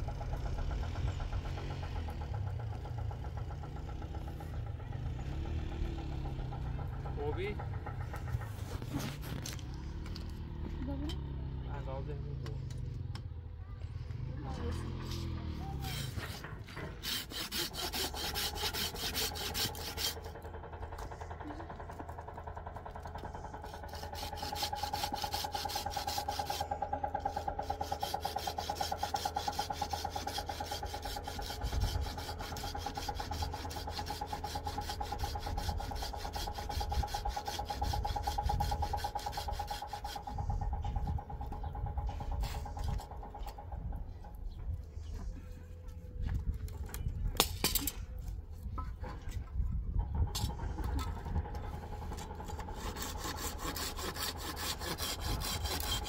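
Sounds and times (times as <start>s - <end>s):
rhythmic rasping: 0.0s - 10.9s, 14.6s - 44.8s, 50.0s - 56.0s.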